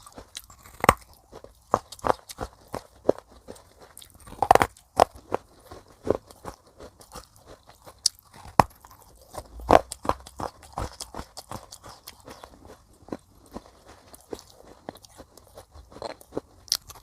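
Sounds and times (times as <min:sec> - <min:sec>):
crunching and chewing clay: 0:00.0 - 0:17.0.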